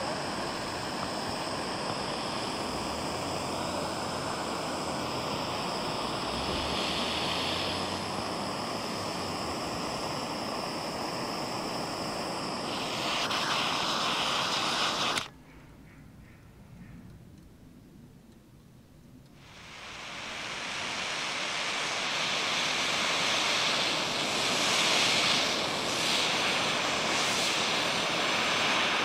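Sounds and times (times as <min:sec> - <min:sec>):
gas burner hissing: 0:00.0 - 0:15.3, 0:19.2 - 0:29.0.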